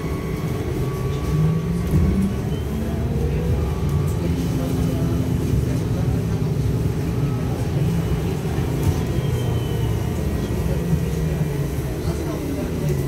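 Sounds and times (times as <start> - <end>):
trolleybus rumble: 0.0 - 13.0.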